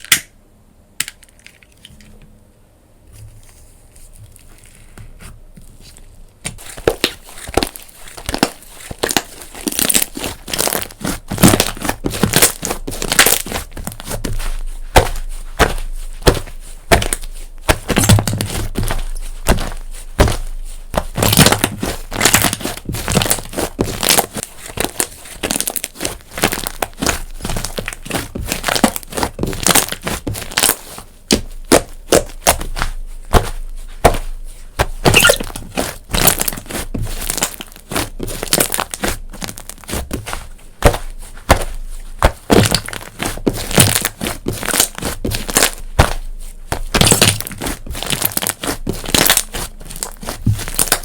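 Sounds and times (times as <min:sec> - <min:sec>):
soft handling of slime: 0:03.0 - 0:51.0
slime crackling crunches: 0:05.8 - 0:51.0.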